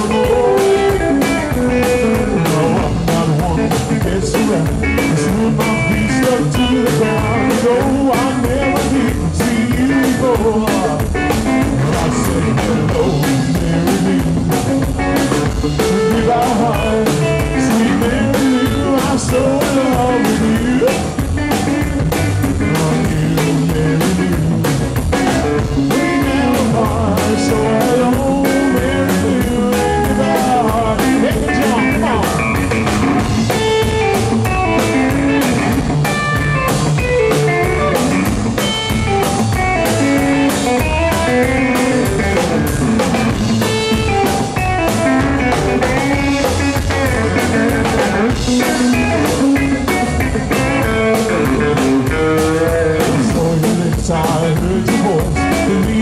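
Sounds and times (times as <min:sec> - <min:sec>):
drum kit steady beat: 0:00.0 - 0:56.0
twangy electric guitar: 0:00.0 - 0:56.0
upright bass: 0:00.0 - 0:56.0.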